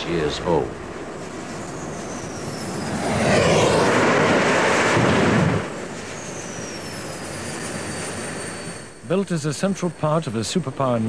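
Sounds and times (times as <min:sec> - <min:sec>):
high turbine whine: 0:00.0 - 0:11.0
jet engine roar: 0:00.0 - 0:11.0.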